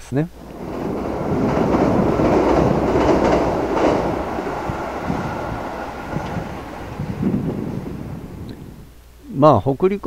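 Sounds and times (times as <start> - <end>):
train wheels rumbling on rails: 0.3 - 9.0.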